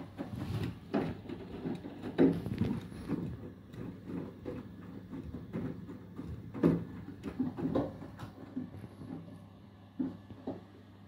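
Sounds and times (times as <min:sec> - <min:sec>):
laundry sloshing in washing machine: 0:00.0 - 0:10.6.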